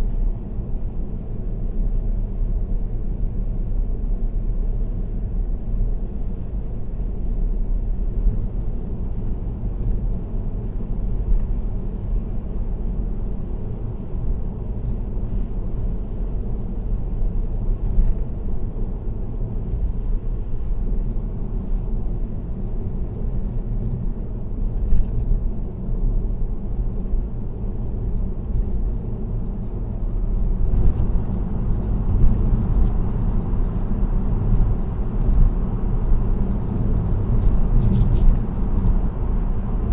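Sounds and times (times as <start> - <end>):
car road rumble and tyre noise: 0.0 - 39.9.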